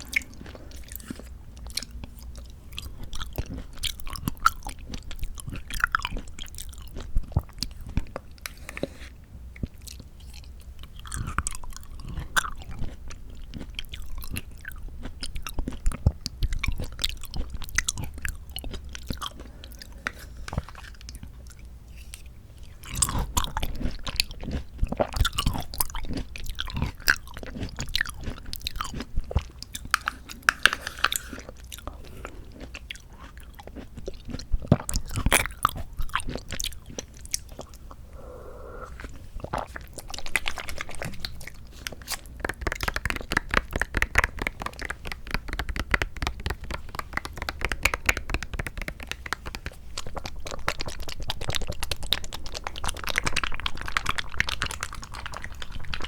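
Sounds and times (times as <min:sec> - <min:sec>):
person chewing fruit: 0:00.0 - 0:56.0
wet mouth clicks: 0:09.6 - 0:56.0.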